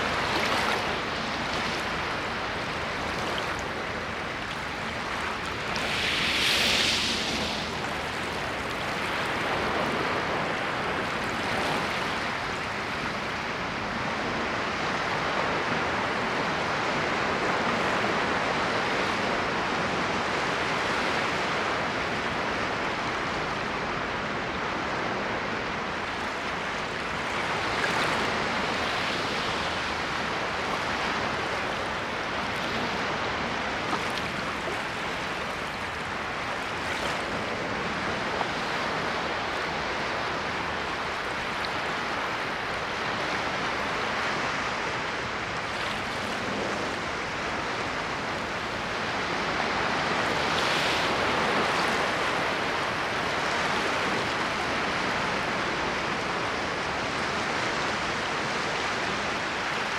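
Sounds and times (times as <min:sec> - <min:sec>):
ocean waves washing on shore: 0:00.0 - 0:59.9.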